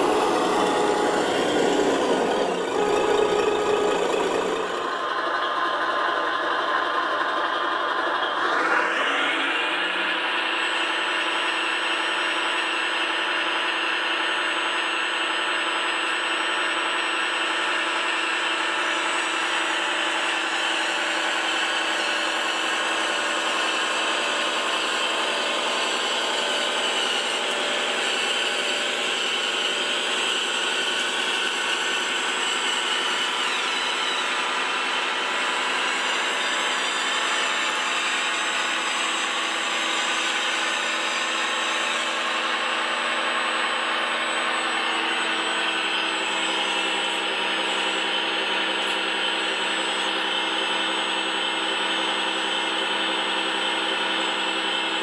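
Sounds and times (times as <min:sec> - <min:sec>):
high whine of electric motors: 0:00.0 - 0:55.0.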